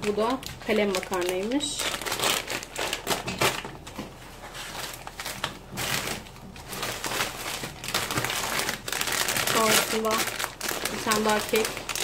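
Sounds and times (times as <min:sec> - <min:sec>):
plastic packets rustling: 0:00.0 - 0:12.0.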